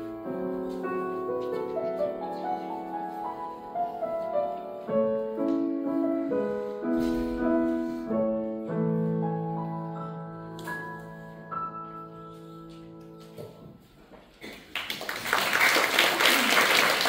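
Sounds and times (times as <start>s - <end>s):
grand piano chords and melody: 0.0s - 14.1s.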